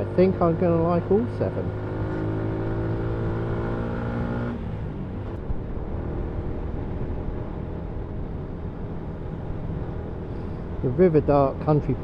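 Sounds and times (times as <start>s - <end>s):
motorcycle engine under throttle: 0.0s - 11.8s
wind and road noise: 0.0s - 12.0s.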